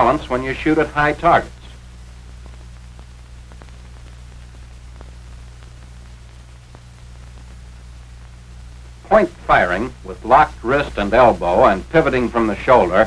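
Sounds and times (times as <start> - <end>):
faint clicks and crackles: 0.0 - 13.0
film soundtrack hum and hiss: 0.0 - 13.0.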